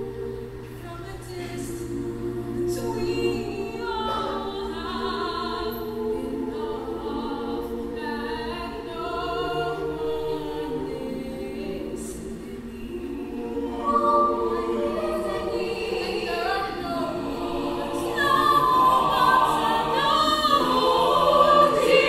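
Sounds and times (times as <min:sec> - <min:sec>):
youth choir singing: 0:00.0 - 0:22.0.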